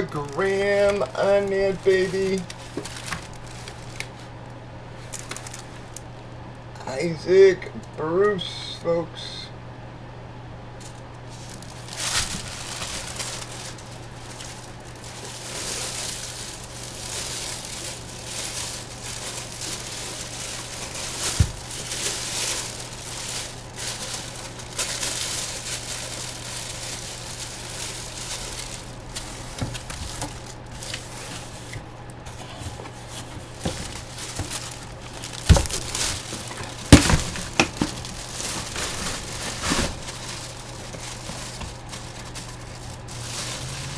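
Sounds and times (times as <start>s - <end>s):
packaging crinkling and rustling: 0.0s - 6.4s, 10.8s - 43.9s.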